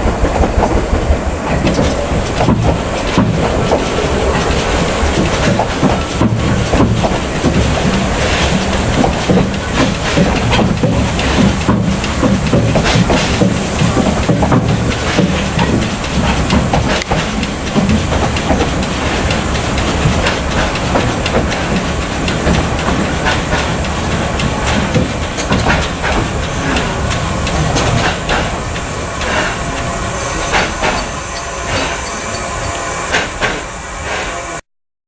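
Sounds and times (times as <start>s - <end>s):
low train rumble: 0.0s - 34.6s
steam hissing: 0.0s - 34.6s.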